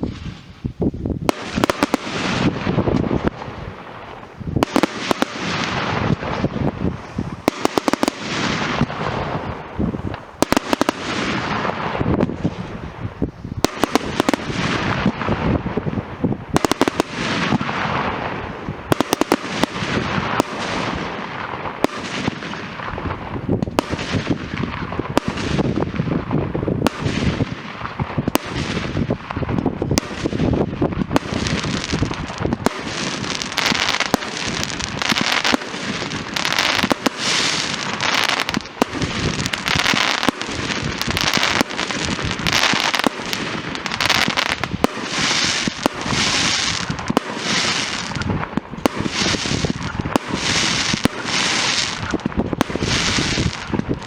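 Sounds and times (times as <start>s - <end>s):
firecrackers banging: 0.0s - 54.0s
fireworks crackling and hissing: 0.0s - 54.0s.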